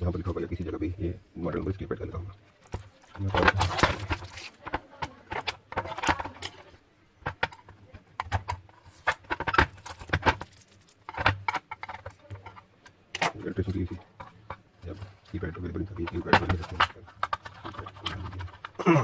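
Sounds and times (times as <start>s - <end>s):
plastic keypad crinkling: 2.6s - 18.8s.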